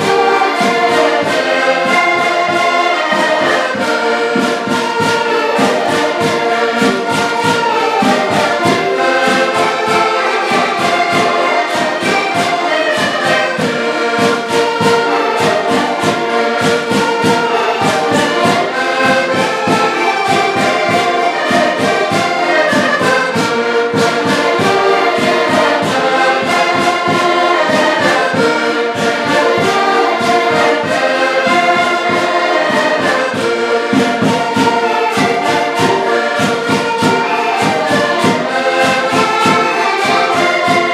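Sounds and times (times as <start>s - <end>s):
button accordions playing folk tune: 0.0s - 40.9s.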